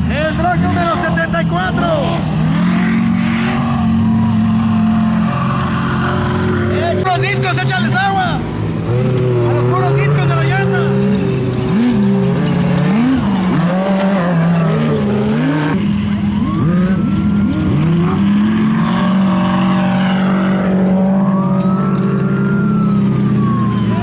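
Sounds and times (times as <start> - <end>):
buggy engines revving: 0.0 - 24.0
low engine drone: 1.0 - 24.0.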